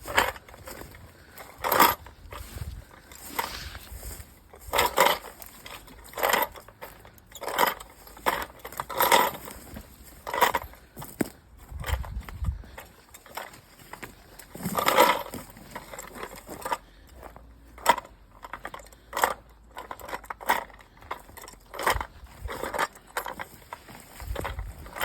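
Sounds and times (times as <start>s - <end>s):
noise-maker rattling: 0.0s - 11.0s, 11.7s - 16.9s, 17.8s - 25.0s
footsteps crunching on trail: 0.0s - 25.0s.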